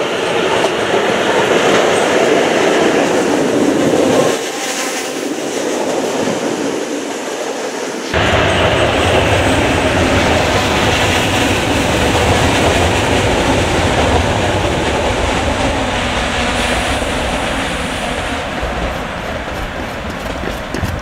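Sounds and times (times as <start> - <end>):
passenger train passing: 0.0 - 21.0.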